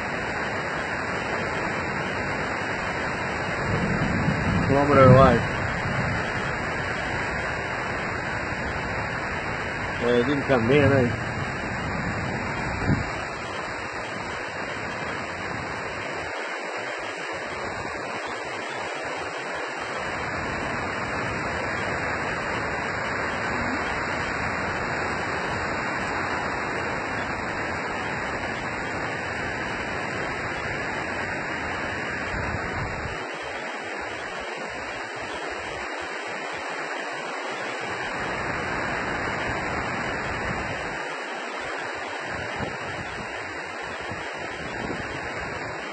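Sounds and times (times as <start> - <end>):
wind buffeting microphone: 0.0 - 33.5, 37.8 - 41.0, 41.8 - 45.9
storm wind roaring: 0.0 - 45.9.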